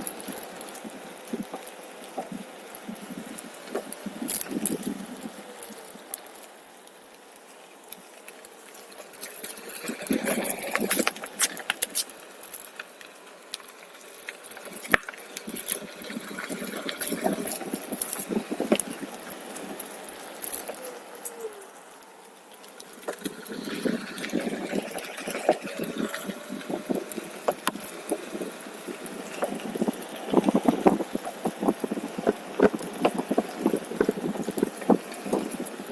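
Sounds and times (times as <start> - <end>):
wheel crunching over rough trail: 0.0 - 35.9.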